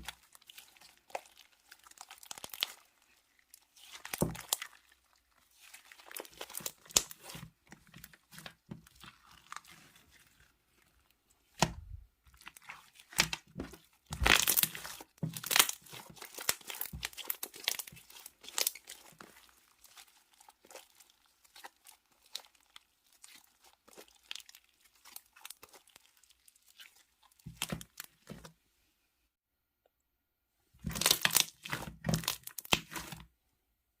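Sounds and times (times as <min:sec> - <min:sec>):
slime squished by hand: 0:00.0 - 0:28.5, 0:30.8 - 0:33.3.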